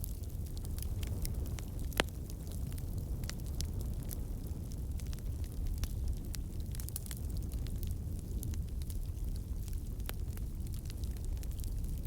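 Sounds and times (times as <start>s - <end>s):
low rumble of burning: 0.0s - 12.0s
wood fire crackling: 0.0s - 12.0s.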